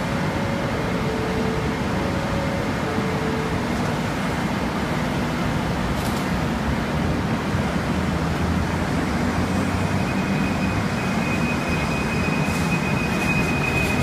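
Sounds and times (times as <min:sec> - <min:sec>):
train rumble and low hum: 0:00.0 - 0:14.0.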